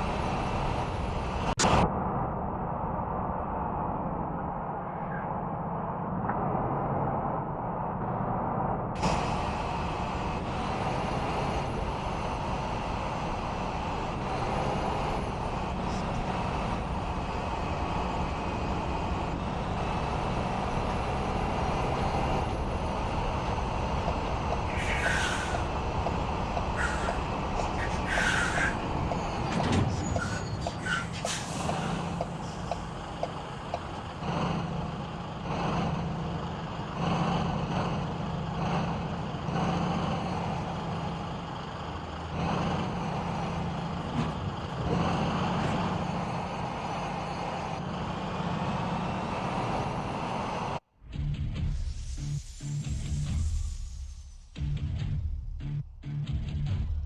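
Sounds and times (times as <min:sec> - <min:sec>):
truck engine running: 0:00.0 - 0:02.2, 0:06.0 - 0:54.0.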